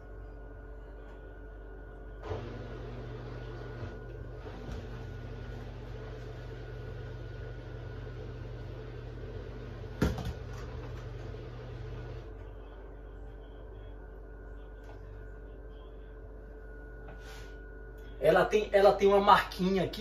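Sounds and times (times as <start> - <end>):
appliance electrical hum: 0.0 - 20.0.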